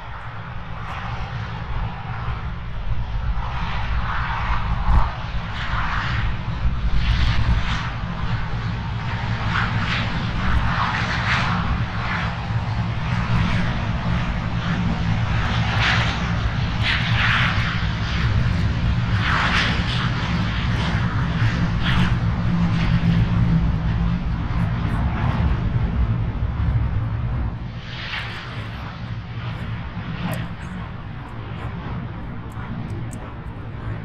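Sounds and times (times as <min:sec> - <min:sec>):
jet engine hiss: 0:00.0 - 0:34.0
jet engines rumbling: 0:00.0 - 0:34.0.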